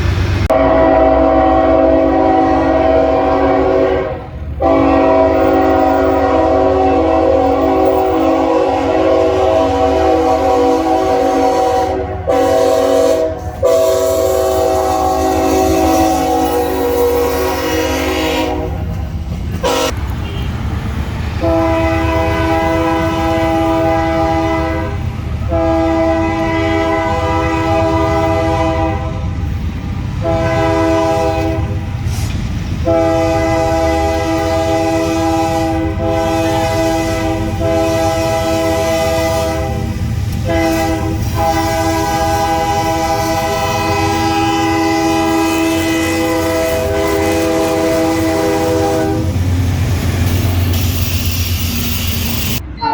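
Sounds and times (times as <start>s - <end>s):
low rumble of moving train: 0.0s - 52.9s
locomotive air horn blasts: 0.5s - 20.6s, 21.4s - 29.4s, 30.2s - 52.9s.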